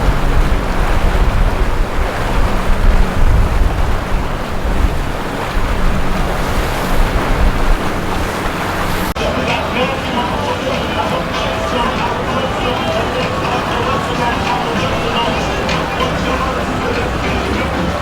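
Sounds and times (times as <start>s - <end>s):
motorboat engines running: 0.0s - 18.0s
water wash: 0.0s - 18.0s
wind buffeting microphone: 0.0s - 18.0s.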